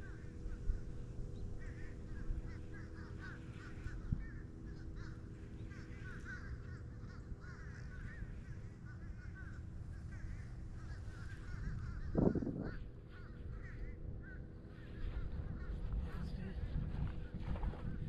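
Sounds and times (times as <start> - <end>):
birds calling: 0.0 - 16.0
faint steady hum: 0.0 - 18.0
wind rumble on microphone: 0.0 - 18.0.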